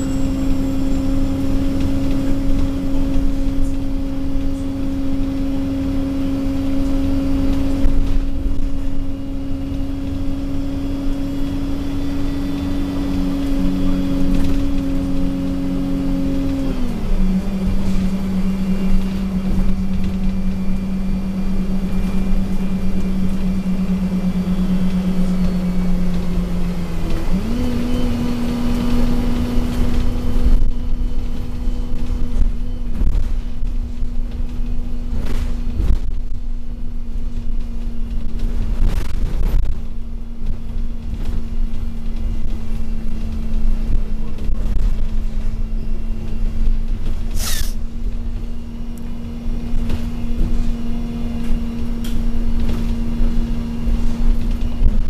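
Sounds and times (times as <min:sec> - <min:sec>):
bus drivetrain whine: 0:00.0 - 0:55.0
low engine rumble: 0:00.0 - 0:55.0.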